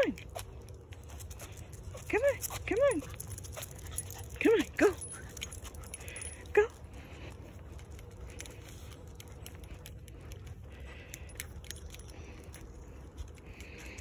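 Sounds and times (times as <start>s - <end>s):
leash clips and tags clinking: 0.0s - 14.0s.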